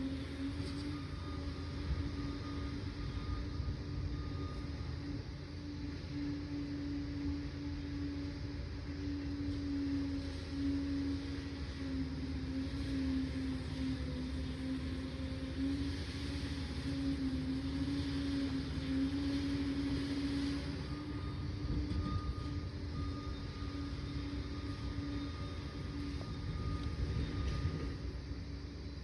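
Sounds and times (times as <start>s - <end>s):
dozer diesel engine droning: 0.0s - 29.0s
faint higher whine: 0.0s - 29.0s.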